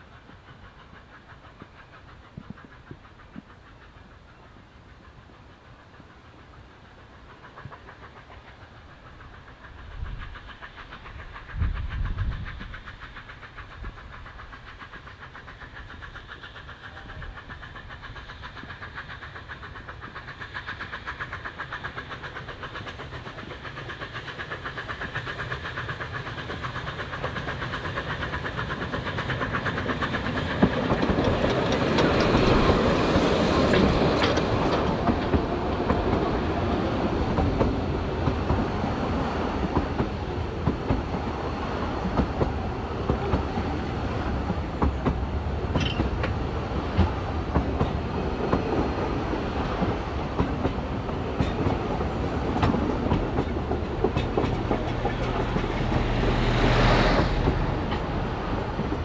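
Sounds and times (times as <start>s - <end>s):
steam locomotive exhaust beat: 0.0s - 59.0s.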